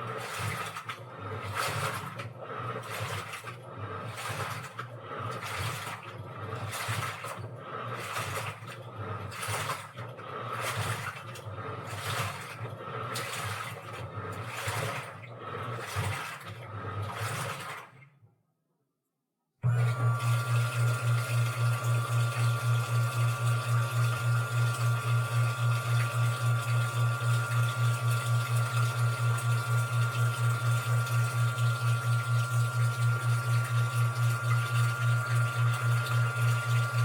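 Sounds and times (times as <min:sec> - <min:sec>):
washing machine drain pump: 0:00.0 - 0:18.2, 0:19.6 - 0:37.0.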